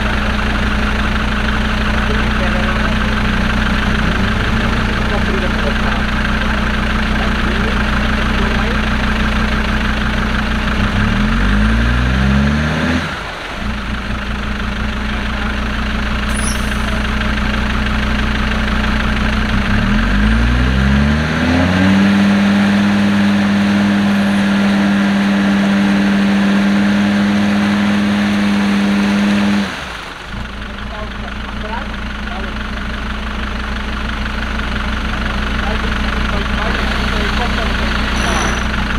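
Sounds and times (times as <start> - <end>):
car engine revving: 0.0 - 18.4, 19.1 - 30.2, 35.3 - 38.9.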